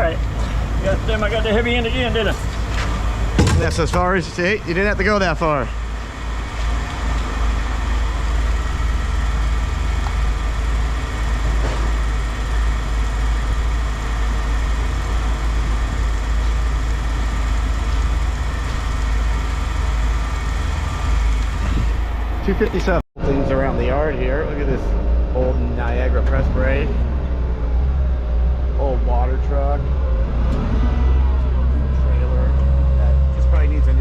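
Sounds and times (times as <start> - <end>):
machinery rumbling: 0.0 - 34.0.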